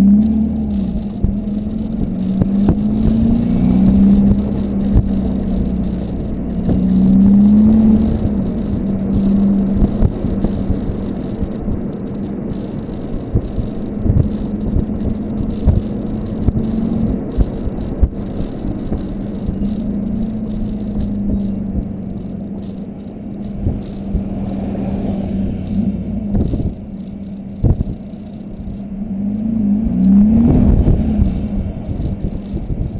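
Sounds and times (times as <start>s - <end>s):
diesel engine drone: 0.0s - 32.9s.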